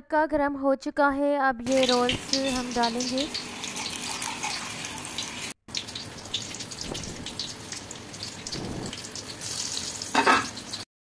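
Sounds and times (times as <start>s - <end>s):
food sizzling in hot oil: 1.7s - 10.8s.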